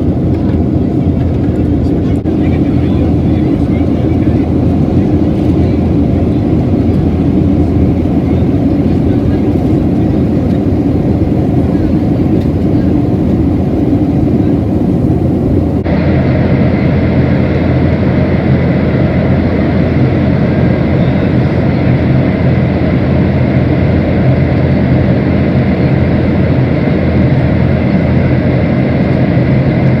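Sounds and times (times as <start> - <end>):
jet cabin roar: 0.0 - 30.0
low hum: 0.0 - 30.0.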